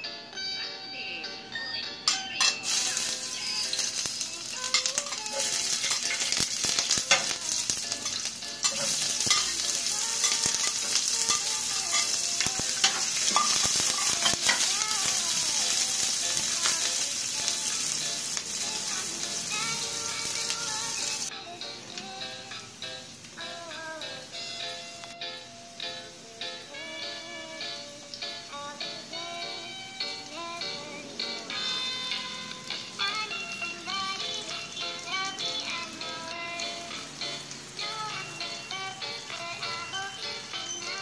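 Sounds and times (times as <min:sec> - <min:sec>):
vegetables sizzling in hot oil: 0:02.1 - 0:21.3, 0:22.0 - 0:41.0.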